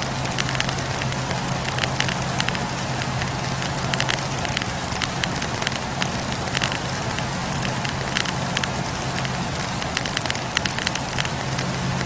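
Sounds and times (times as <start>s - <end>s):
low rumble of flames: 0.0s - 12.0s
sharp pops of burning logs: 0.0s - 12.0s
wood fire crackling: 0.0s - 12.0s.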